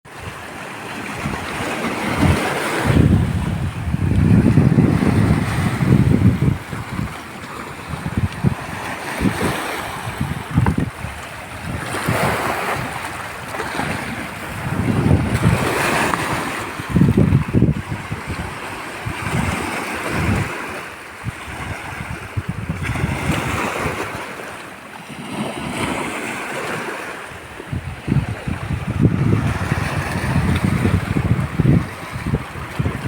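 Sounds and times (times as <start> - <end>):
wind buffeting microphone: 0.1 - 24.4, 25.3 - 33.0
sea surf washing on shore: 0.1 - 33.0.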